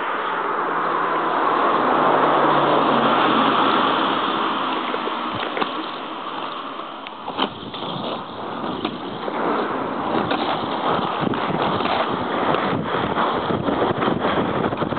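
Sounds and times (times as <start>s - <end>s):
skate wheels rolling on asphalt: 0.0s - 14.9s
wind rushing over microphone: 0.0s - 14.9s.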